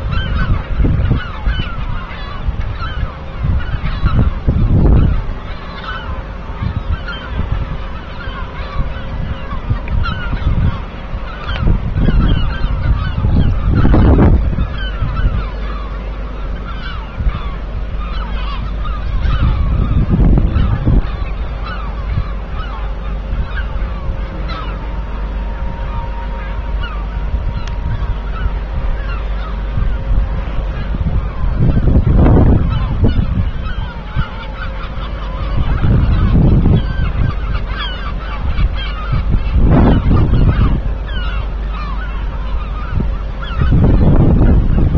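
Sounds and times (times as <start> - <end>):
birds honking: 0.0 - 44.9
faint steady hum: 0.0 - 44.9
low rumbles: 0.0 - 44.9.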